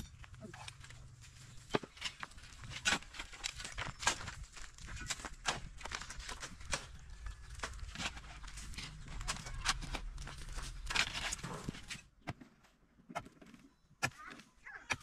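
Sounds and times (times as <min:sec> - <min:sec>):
pickaxe and shovels digging stony ground: 0:00.0 - 0:15.0.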